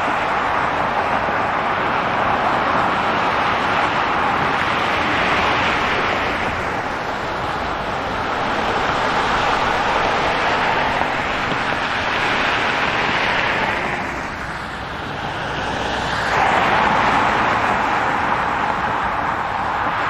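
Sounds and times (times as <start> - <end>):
city traffic rushing past: 0.0 - 20.0.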